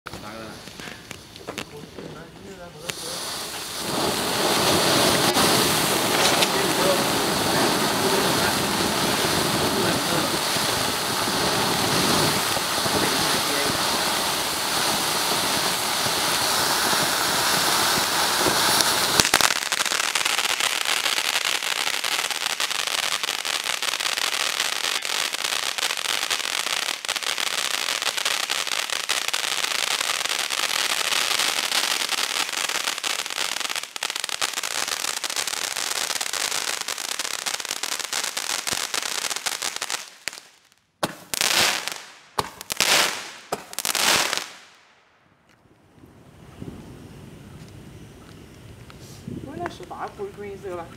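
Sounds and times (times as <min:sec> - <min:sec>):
firework sparks hissing and crackling: 0:00.1 - 0:50.9.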